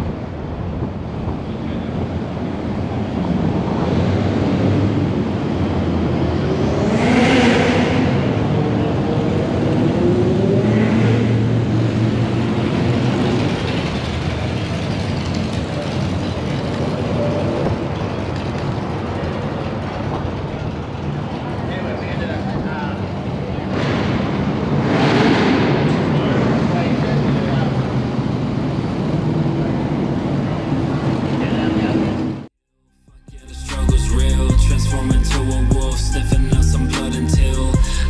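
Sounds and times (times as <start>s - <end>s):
car engines running: 0.0s - 32.2s, 33.3s - 38.0s.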